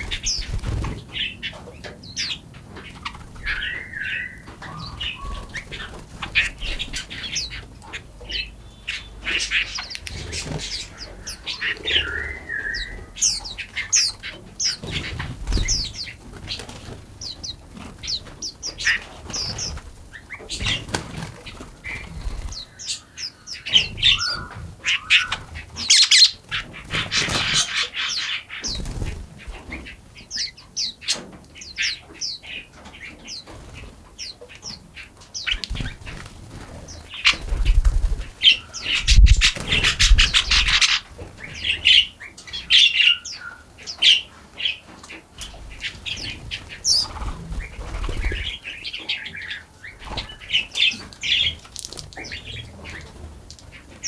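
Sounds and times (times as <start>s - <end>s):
wings fluttering: 0.0s - 8.4s, 9.1s - 23.0s, 23.7s - 30.1s, 35.4s - 42.1s, 44.8s - 54.0s
small birds chirping: 0.0s - 54.0s.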